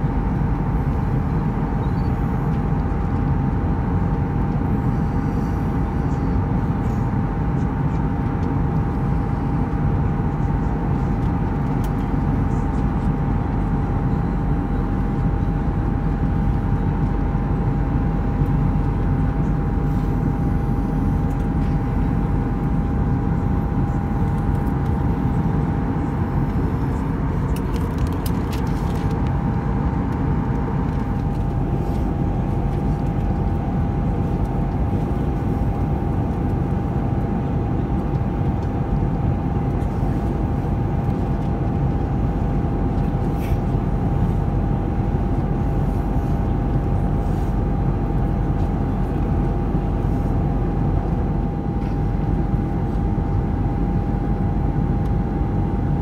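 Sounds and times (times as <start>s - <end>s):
airliner cabin drone: 0.0s - 56.0s
thin steady whine: 0.0s - 56.0s.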